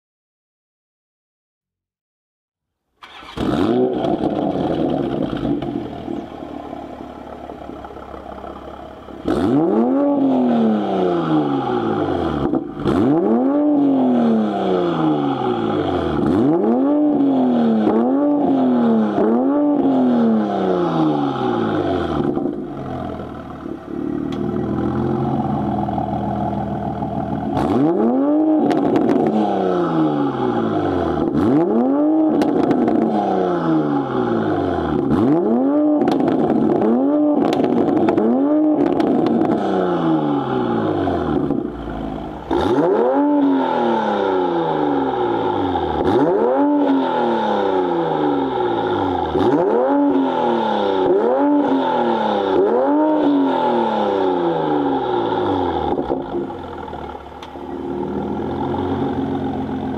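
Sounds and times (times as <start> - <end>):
car engine revving: 3.0 - 59.9.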